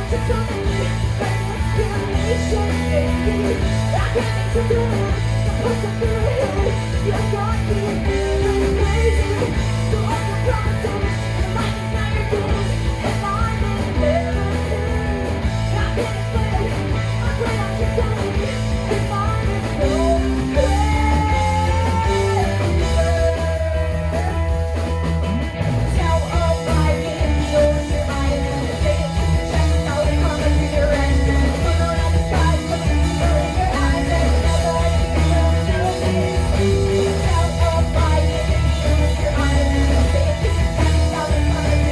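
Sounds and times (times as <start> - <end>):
electric guitar melodic lines: 0.0 - 41.9
rock band playing live: 0.0 - 41.9.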